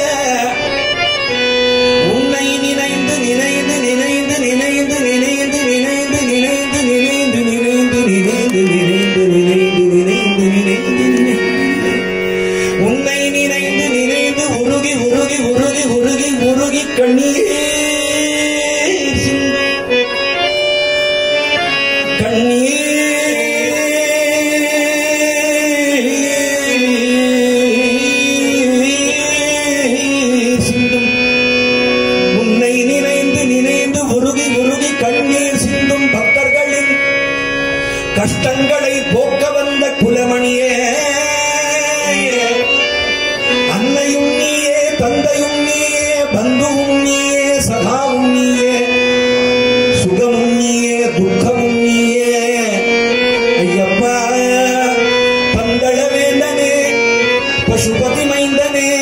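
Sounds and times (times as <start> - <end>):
harmonium sustained tones: 0.0 - 59.0.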